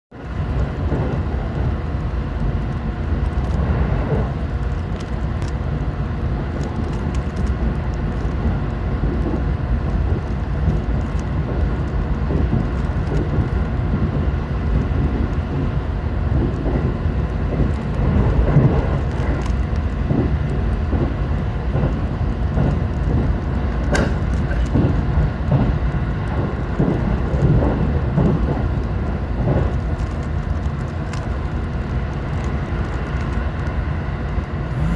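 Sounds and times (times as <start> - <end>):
train rumbling inside carriage: 0.1 - 34.9.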